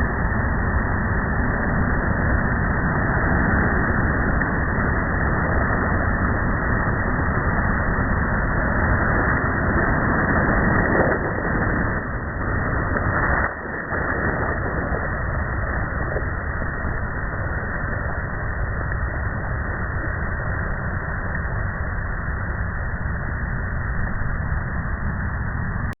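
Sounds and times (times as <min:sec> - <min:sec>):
ocean waves breaking on beach: 0:00.0 - 0:21.7.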